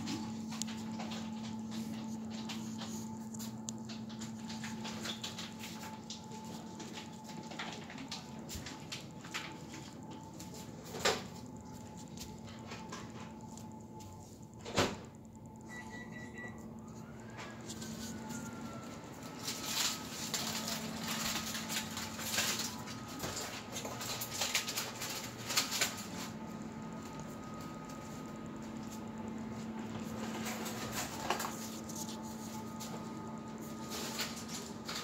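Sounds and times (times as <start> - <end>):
steady hum: 0.0 - 35.0.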